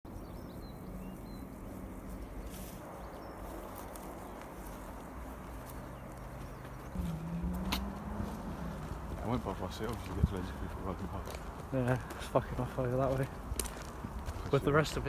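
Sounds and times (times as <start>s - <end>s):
outdoor background noise: 0.1s - 15.0s.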